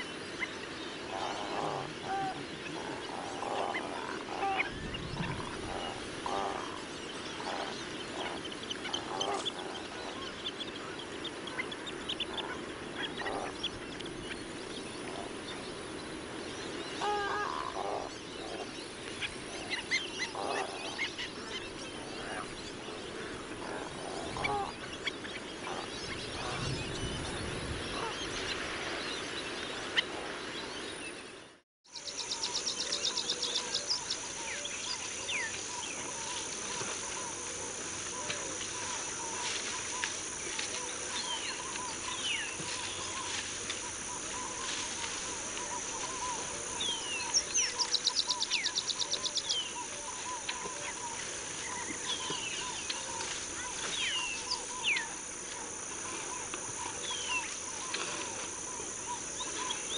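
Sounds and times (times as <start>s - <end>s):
shorebirds calling: 0.0s - 31.1s, 31.9s - 59.9s
steady background hiss: 0.0s - 59.9s.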